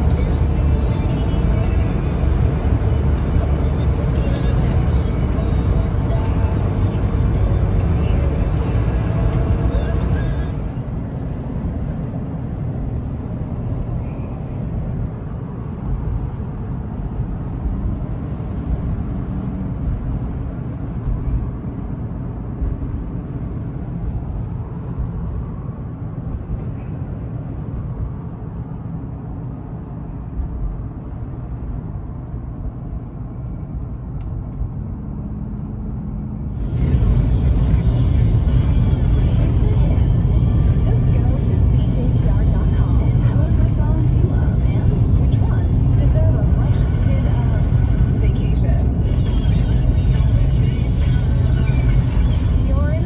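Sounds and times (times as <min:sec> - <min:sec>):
vehicle engine and tyre rumble: 0:00.0 - 0:53.0.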